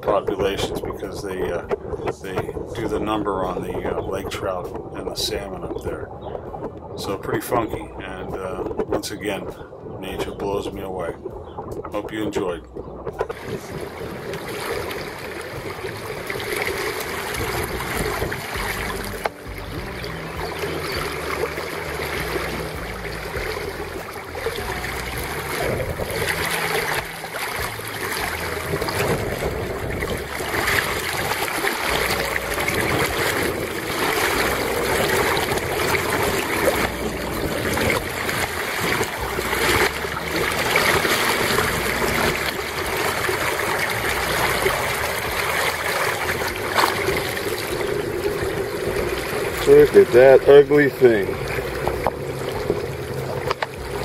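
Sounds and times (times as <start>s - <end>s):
river water rushing and sloshing: 0.0s - 54.0s.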